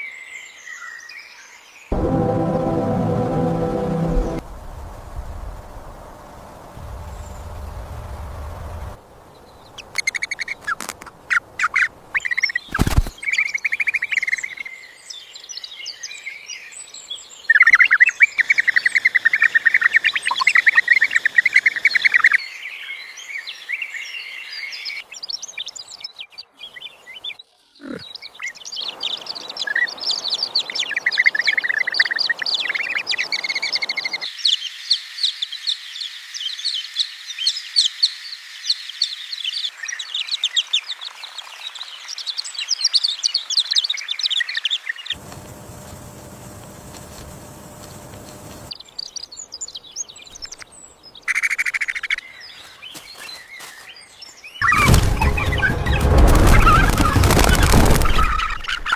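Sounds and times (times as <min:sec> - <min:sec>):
small birds chirping: 0:05.6 - 0:34.6, 0:35.2 - 0:54.8.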